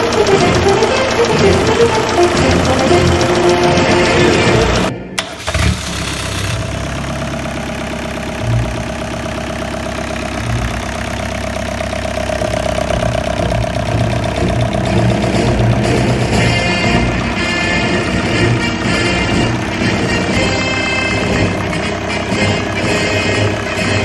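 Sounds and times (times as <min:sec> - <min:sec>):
diesel engine running: 0:00.0 - 0:24.0
engine whine: 0:00.0 - 0:24.0.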